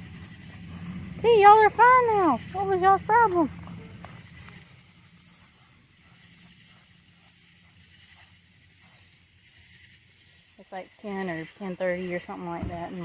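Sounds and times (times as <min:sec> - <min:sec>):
insects chirping: 0:00.0 - 0:13.0
outdoor ambient hiss: 0:00.0 - 0:13.0.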